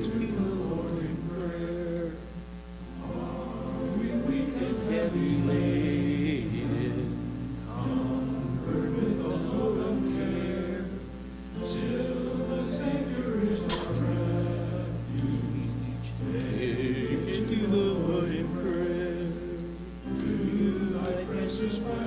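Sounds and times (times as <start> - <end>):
choir singing church music: 0.0 - 22.0.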